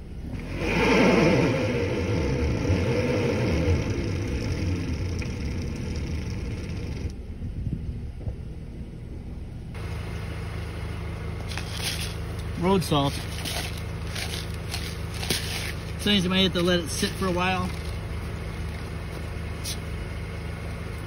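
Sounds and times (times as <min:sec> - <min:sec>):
car engine revving: 0:00.0 - 0:07.5, 0:09.0 - 0:21.0.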